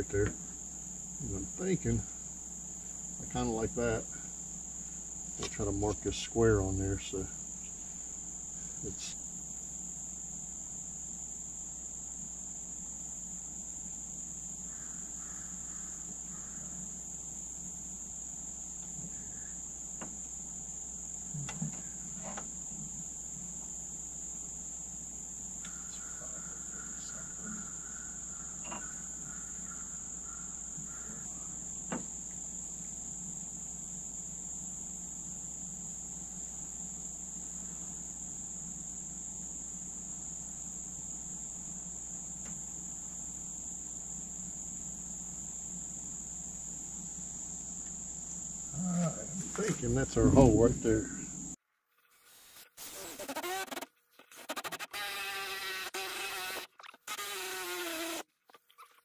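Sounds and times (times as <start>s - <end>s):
crickets chirping: 0.0s - 51.6s, 52.3s - 59.0s.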